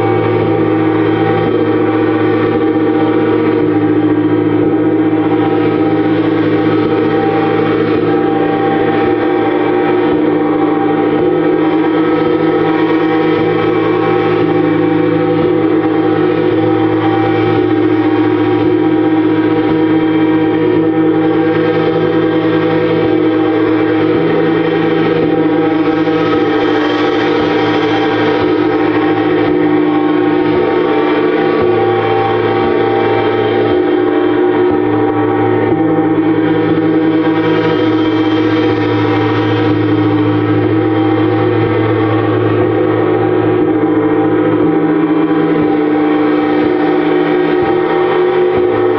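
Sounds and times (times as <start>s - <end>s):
gongs ringing: 0.0s - 48.9s.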